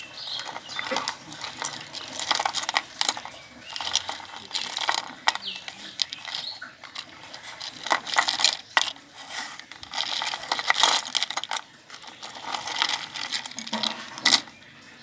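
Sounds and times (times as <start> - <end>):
plastic toys clattering: 0.0 - 14.6.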